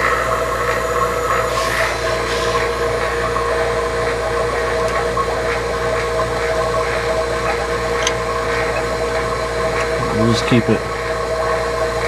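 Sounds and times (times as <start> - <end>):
vacuum pump running: 0.0 - 12.0.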